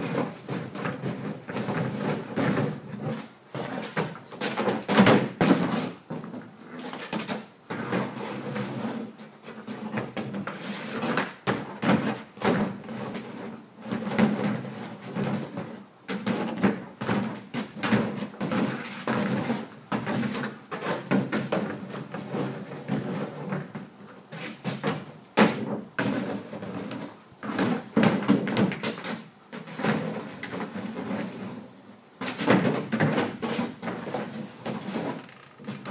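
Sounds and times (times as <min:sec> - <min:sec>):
plastic pool scraping on concrete: 0:00.0 - 0:35.9.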